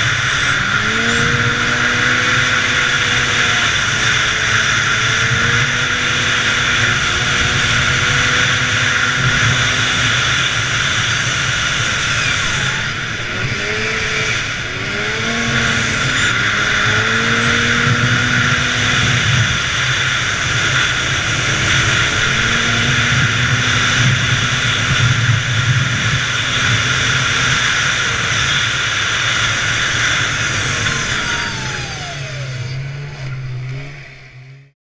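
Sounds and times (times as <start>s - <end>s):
wind rush: 0.0s - 32.6s
snowmobile engine running hard: 0.0s - 34.8s
snowmobile track noise: 0.0s - 34.8s.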